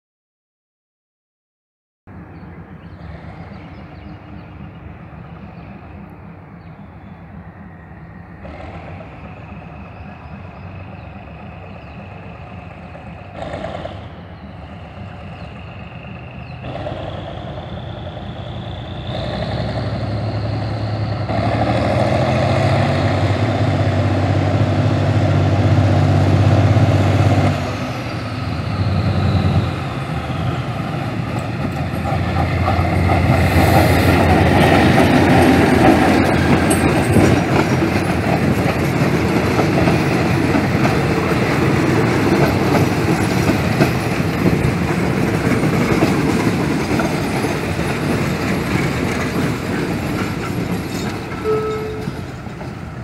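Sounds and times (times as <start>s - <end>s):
diesel locomotive engine: 2.1s - 53.0s
train wheels rumbling on rails: 2.2s - 53.0s.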